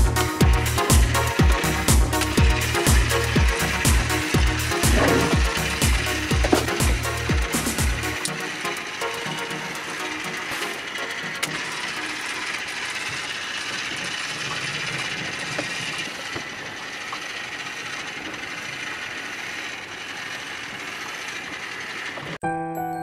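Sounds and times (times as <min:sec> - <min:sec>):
toy train motor whirring: 0:00.0 - 0:22.4.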